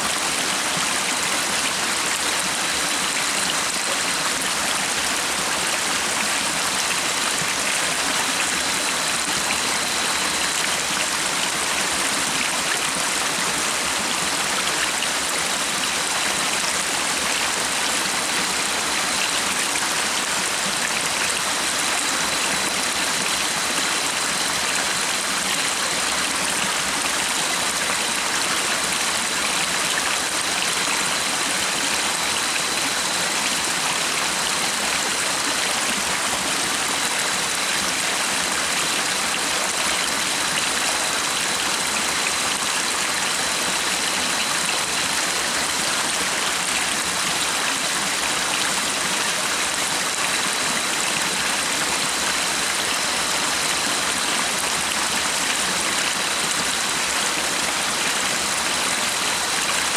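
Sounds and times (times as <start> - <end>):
flowing stream rushing: 0.0 - 59.9.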